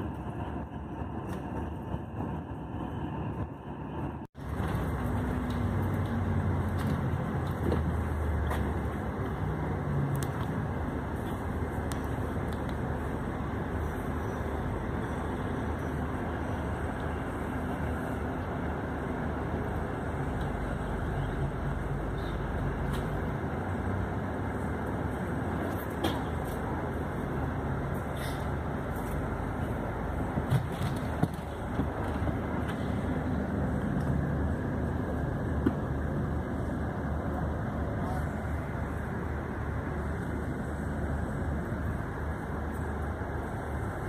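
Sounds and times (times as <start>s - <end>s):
diesel bus engine rumble: 0.0s - 44.0s.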